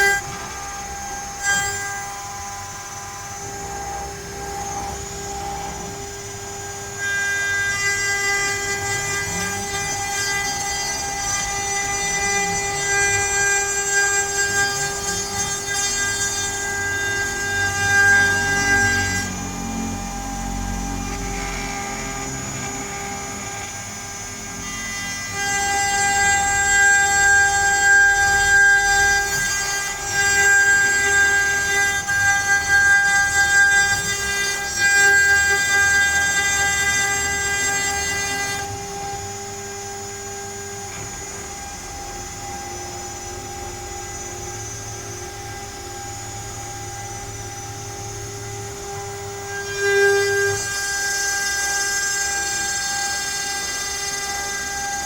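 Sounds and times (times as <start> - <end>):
router spindle whine and cutting: 0.0 - 55.0.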